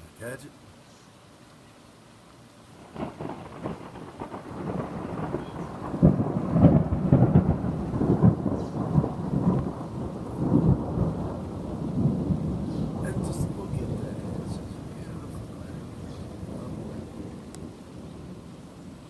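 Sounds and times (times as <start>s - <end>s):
crackling thunder rumble: 2.8s - 19.0s.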